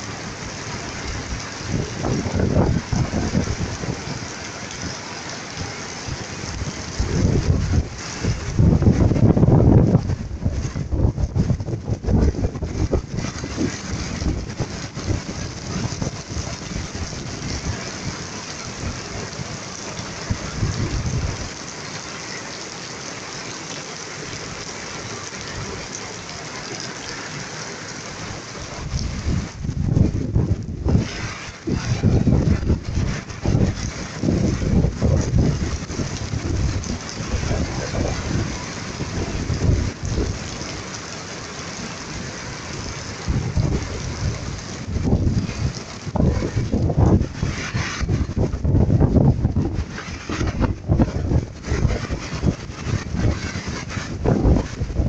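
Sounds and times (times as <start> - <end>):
low rumbles: 0.0 - 19.5, 28.1 - 55.0
heavy rain pounding street: 0.0 - 55.0
wind: 0.0 - 55.0.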